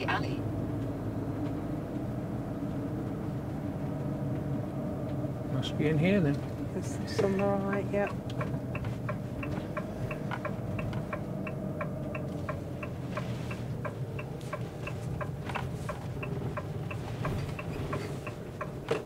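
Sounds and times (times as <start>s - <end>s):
engine humming: 0.0s - 19.0s
turn signal ticking: 0.0s - 19.0s.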